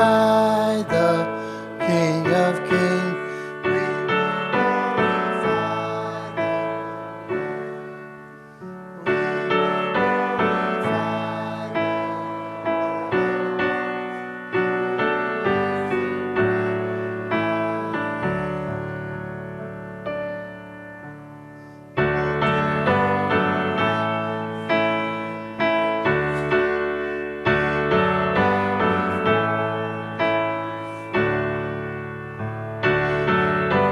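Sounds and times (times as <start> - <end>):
slow gentle piano piece: 0.0 - 33.9.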